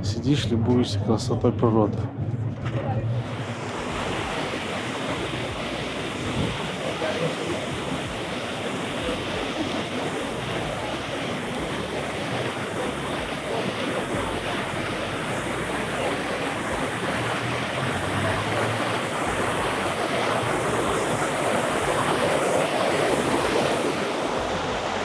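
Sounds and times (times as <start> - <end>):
fountain jets splashing into pool: 3.2 - 25.0.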